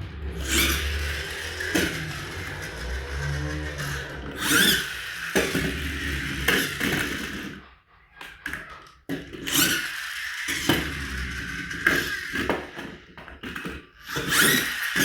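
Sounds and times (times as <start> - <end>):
toy electric motor whirring: 0.0 - 15.0.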